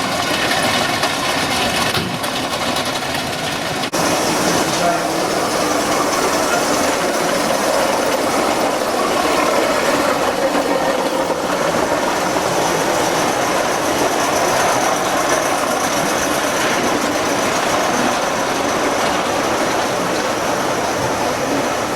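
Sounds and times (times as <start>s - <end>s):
model train rolling on track: 0.0s - 21.9s.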